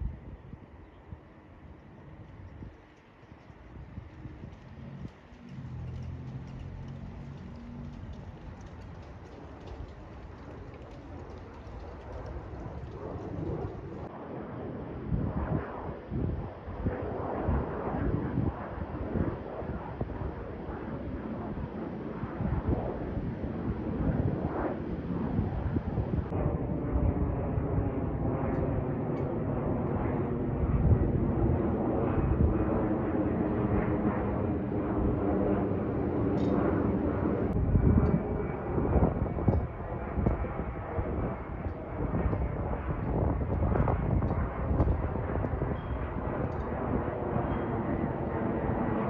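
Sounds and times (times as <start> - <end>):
jet airliner engines rumbling: 0.0 - 49.0
wind buffeting microphone: 0.0 - 49.0.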